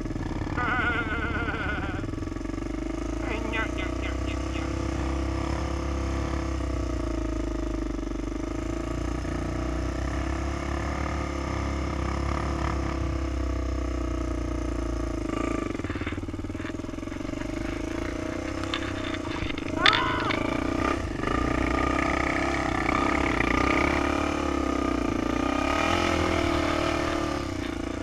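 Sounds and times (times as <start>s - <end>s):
quad engine idling: 0.0s - 28.0s.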